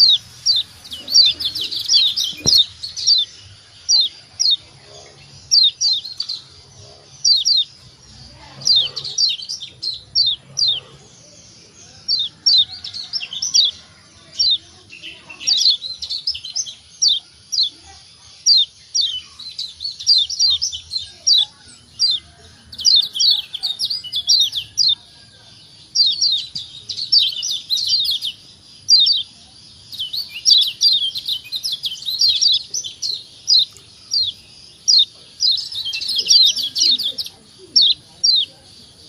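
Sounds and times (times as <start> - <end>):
bird chirping: 0.0 - 39.0.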